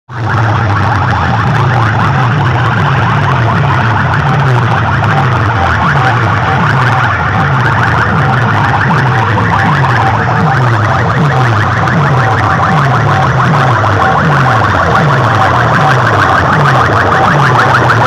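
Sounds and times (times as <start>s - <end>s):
electronic siren-like sweep: 0.1s - 18.0s.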